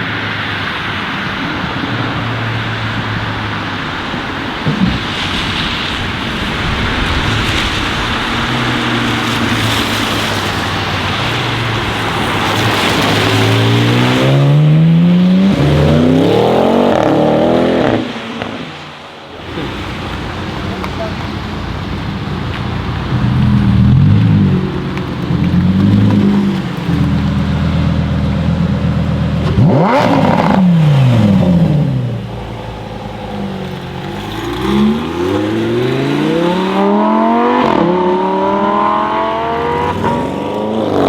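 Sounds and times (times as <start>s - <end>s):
car engine burbling and accelerating: 0.0s - 41.0s.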